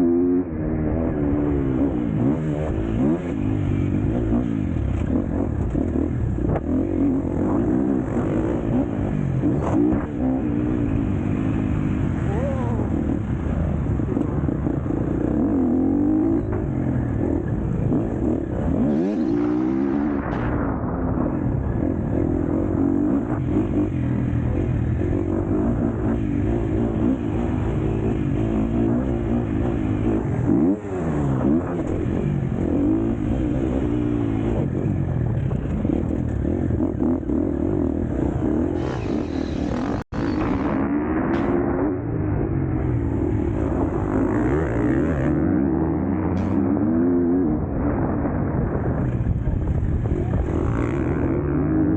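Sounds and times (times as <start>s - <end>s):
motocross bike engine revving: 0.0s - 48.9s, 49.8s - 51.9s.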